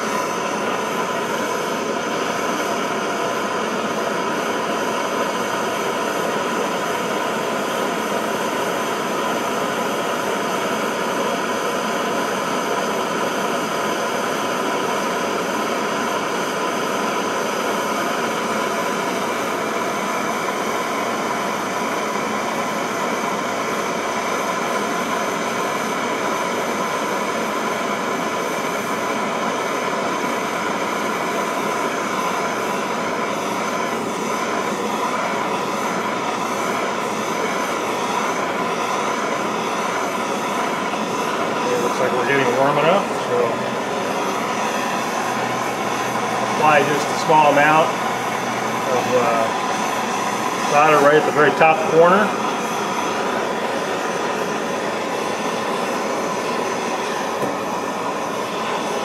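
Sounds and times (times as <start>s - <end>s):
gas torch flame hissing: 0.0s - 59.0s.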